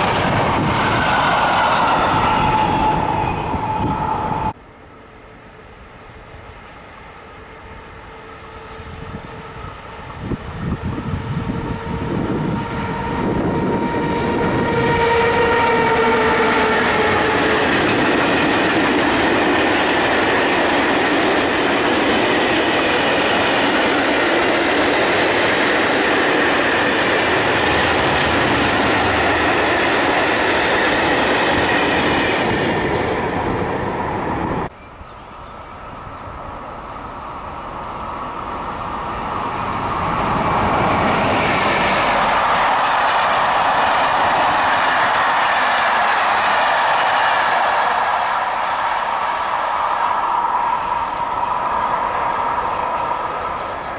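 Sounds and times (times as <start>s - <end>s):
distant train rumble: 0.0s - 53.9s.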